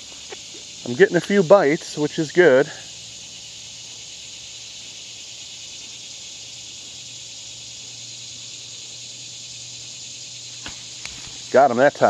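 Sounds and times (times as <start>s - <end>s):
insects chorus shrilling: 0.0s - 12.0s.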